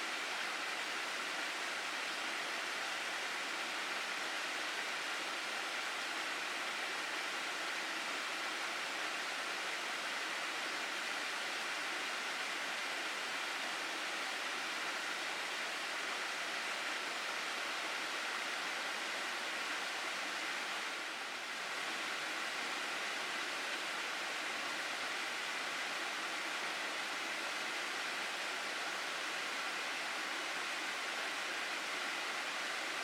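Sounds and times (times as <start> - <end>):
water rushing in a stream: 0.0 - 33.0.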